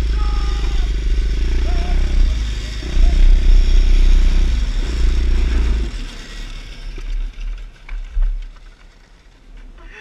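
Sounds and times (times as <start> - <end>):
small motorcycle engine: 0.0 - 9.4
low hum: 0.0 - 9.8.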